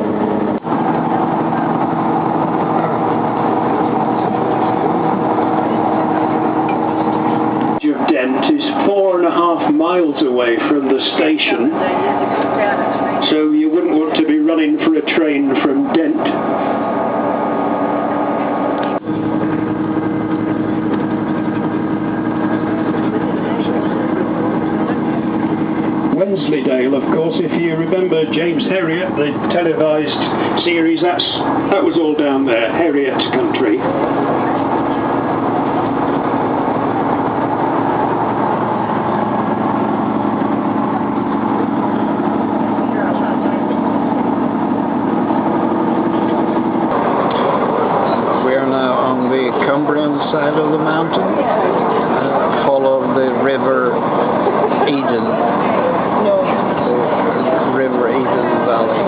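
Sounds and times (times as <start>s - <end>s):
train engine drone inside carriage: 0.0s - 59.0s.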